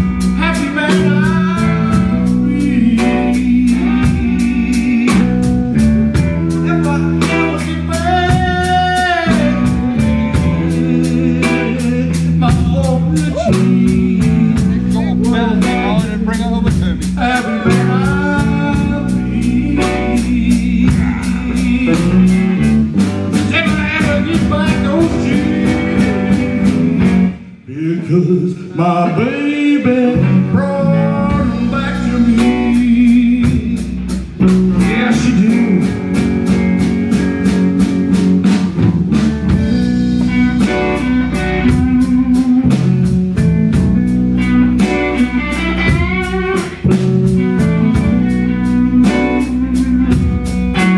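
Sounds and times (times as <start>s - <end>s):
man singing: 0.0s - 36.5s, 39.6s - 44.0s, 44.7s - 50.9s
blues band playing: 0.0s - 50.9s.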